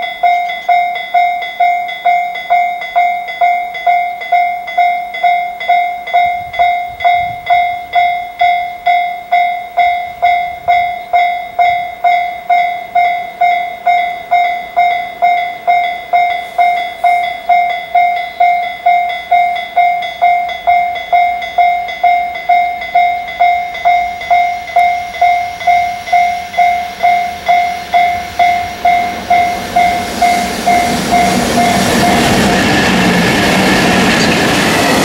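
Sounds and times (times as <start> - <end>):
level crossing warning bell: 0.0 - 35.0.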